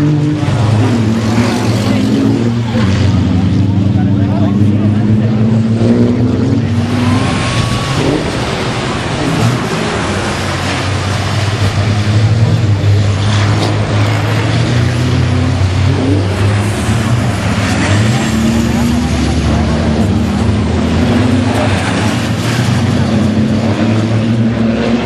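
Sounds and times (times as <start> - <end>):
racing truck engines at speed: 0.0 - 25.0.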